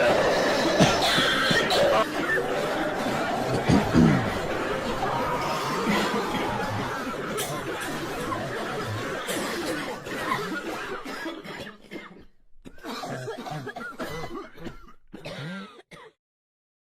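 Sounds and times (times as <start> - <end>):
crowd coughing: 0.0 - 16.2.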